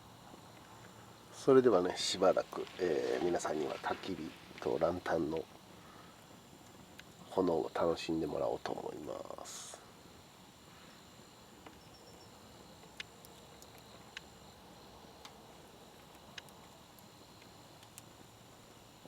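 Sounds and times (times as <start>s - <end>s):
campfire crackling: 0.0s - 19.0s
low steady hiss: 0.0s - 19.0s
burning wood popping: 0.2s - 9.3s, 9.9s - 18.8s.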